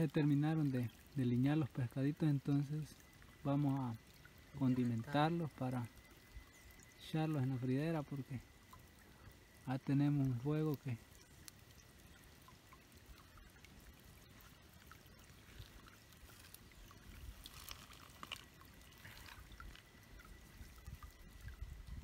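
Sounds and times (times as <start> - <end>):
thin steady high tone: 0.0 - 22.0.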